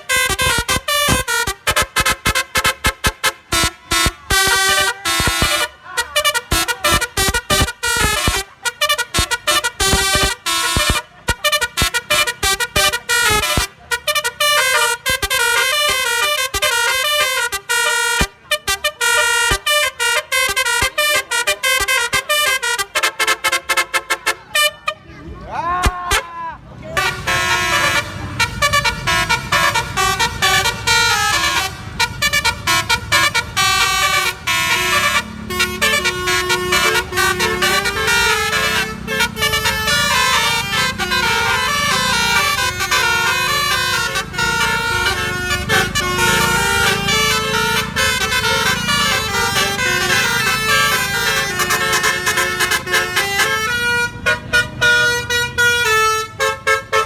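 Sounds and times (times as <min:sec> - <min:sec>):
musical air horn melody: 0:00.0 - 0:25.1, 0:26.9 - 0:57.0.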